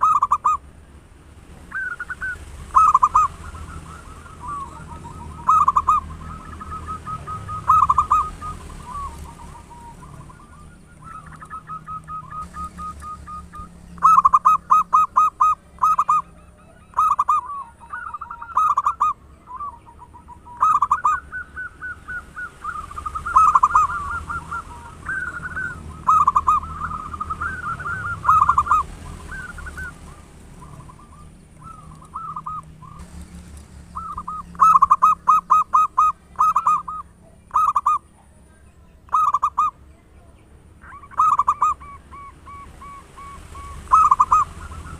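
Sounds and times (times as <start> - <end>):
dove cooing: 0.0 - 0.7, 1.7 - 44.9.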